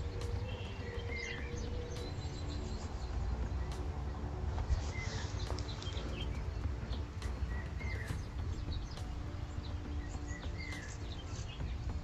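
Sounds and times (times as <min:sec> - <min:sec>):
bird chirps: 0:00.0 - 0:12.0
low rumble: 0:00.0 - 0:12.0.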